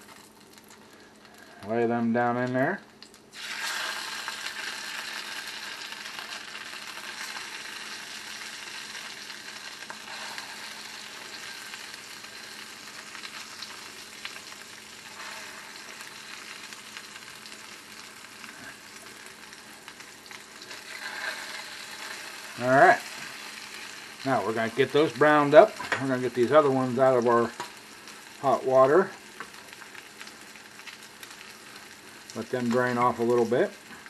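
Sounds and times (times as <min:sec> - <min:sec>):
food sizzling in a frying pan: 0:00.0 - 0:34.0.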